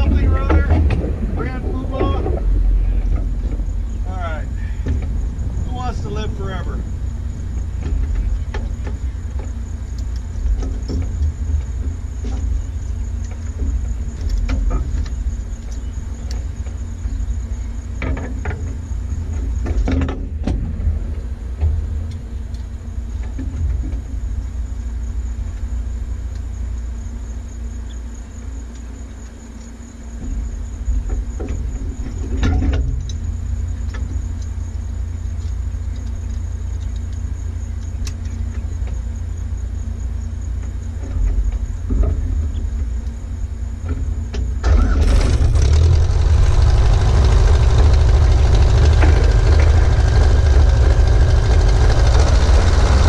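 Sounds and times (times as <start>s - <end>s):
light aircraft engine idling: 0.0s - 53.0s.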